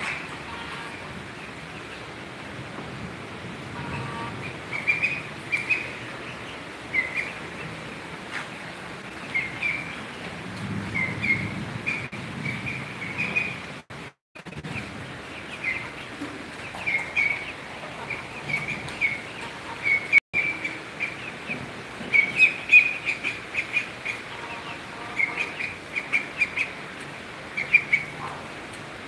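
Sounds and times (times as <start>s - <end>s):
ducklings and chick peeping: 0.0s - 2.1s, 3.8s - 8.6s, 9.2s - 10.3s, 10.9s - 13.6s, 14.5s - 28.5s.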